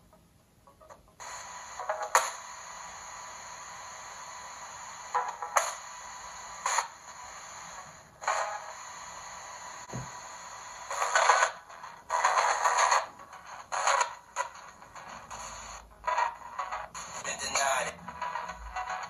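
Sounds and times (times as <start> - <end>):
radio static hiss: 0.8 - 19.0.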